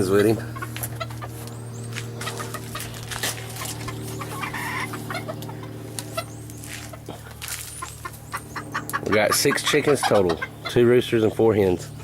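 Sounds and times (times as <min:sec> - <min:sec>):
chickens clucking: 0:00.0 - 0:12.0
steady low hum: 0:00.0 - 0:12.0.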